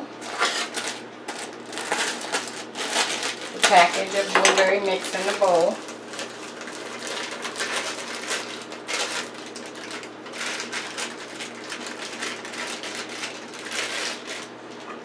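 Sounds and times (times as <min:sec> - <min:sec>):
package rustling and crinkling: 0:00.2 - 0:14.9.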